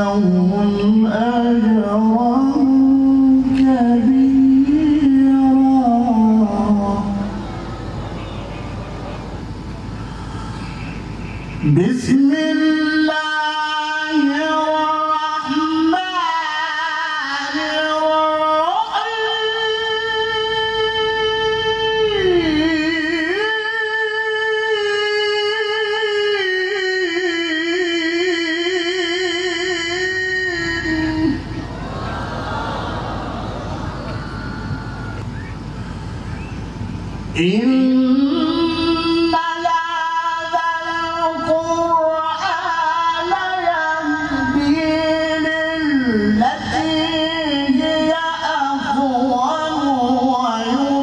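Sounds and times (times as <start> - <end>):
man reciting melodically through microphone: 0.0 - 7.6, 10.0 - 31.8, 35.3 - 51.0.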